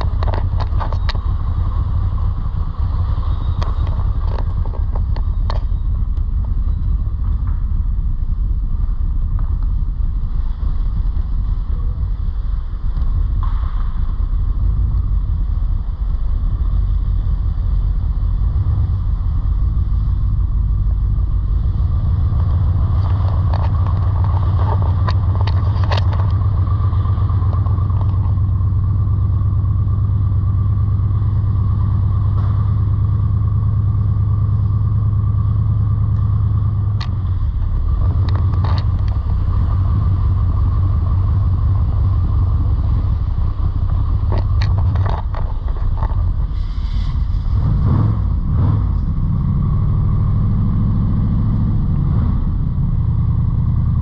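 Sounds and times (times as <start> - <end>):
car engine hum inside cabin: 0.0 - 54.0.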